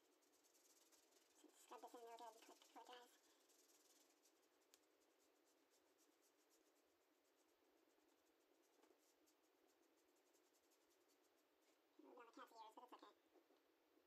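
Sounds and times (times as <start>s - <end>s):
brush scratching on canvas: 0.0s - 12.8s.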